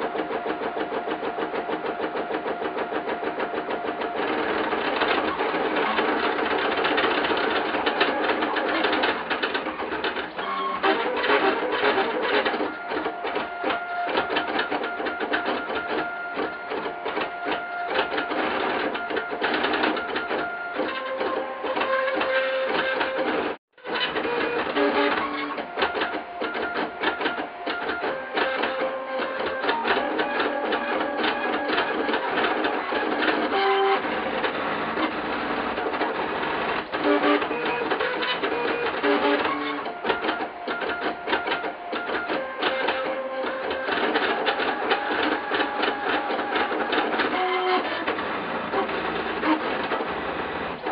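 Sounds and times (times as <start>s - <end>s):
printer stepper motors whirring: 0.0s - 50.9s.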